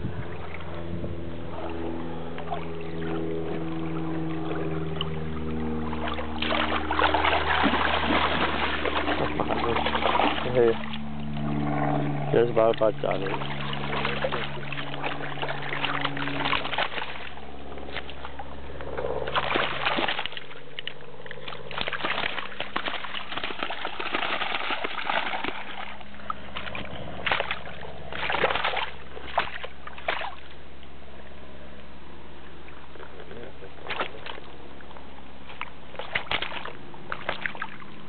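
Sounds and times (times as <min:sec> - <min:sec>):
water sloshing and splashing: 0:00.0 - 0:31.4, 0:32.4 - 0:38.0
steady low hum: 0:00.0 - 0:38.0.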